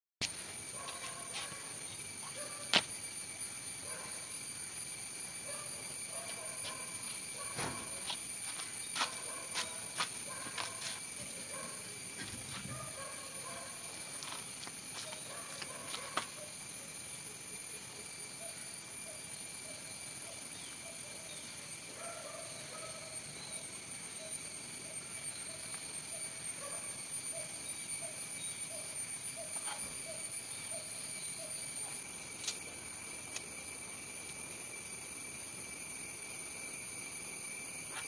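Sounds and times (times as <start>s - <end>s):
insects droning: 0.2s - 38.0s.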